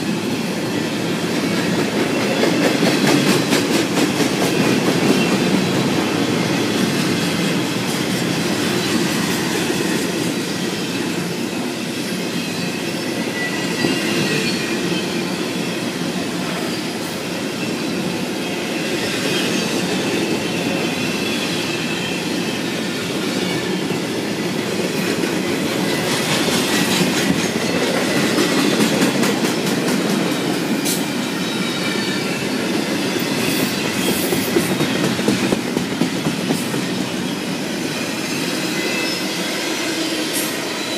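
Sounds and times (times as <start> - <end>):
steel wheels rumbling on rail: 0.0 - 40.9.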